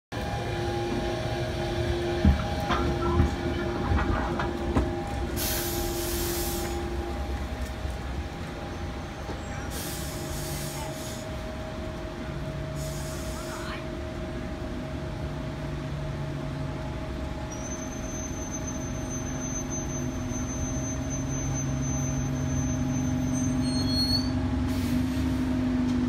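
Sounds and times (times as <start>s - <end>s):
tram traction whine: 0.1s - 26.0s.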